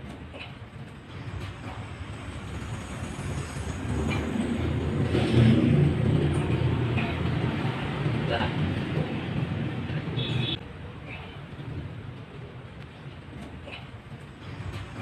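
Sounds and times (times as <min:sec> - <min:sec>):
passing vehicle rumble: 0:00.8 - 0:13.4.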